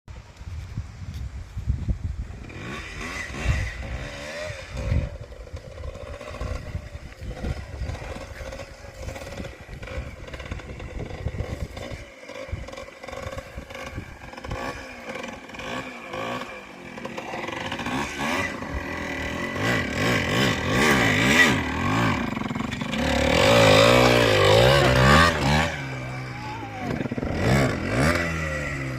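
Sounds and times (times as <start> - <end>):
dirt bike engine running: 1.5 - 28.9.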